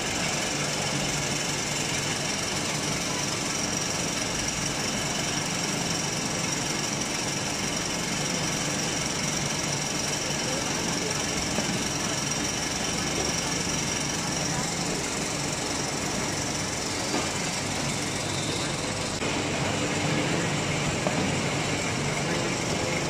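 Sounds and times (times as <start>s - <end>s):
hydraulic press mechanical din: 2.2s - 23.0s.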